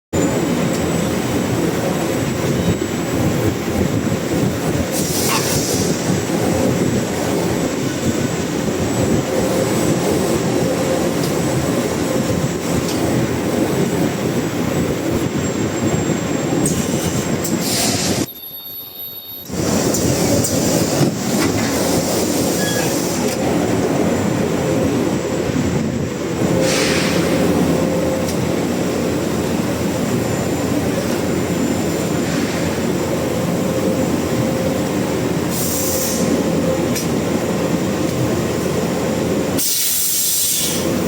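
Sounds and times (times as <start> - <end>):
heat-sealing machine and conveyor running: 0.2 - 41.0.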